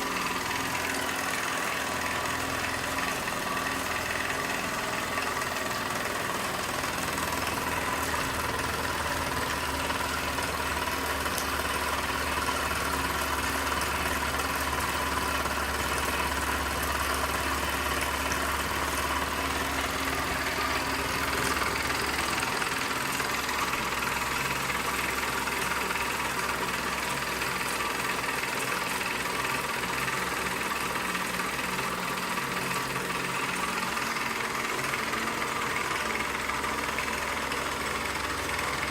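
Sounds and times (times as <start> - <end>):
toy steam engine running: 0.0 - 38.9.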